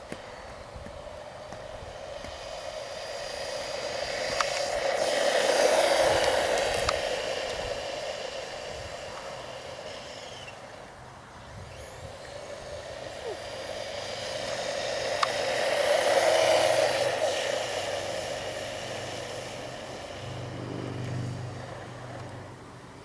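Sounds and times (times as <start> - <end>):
rc truck motor whine: 0.0 - 23.0.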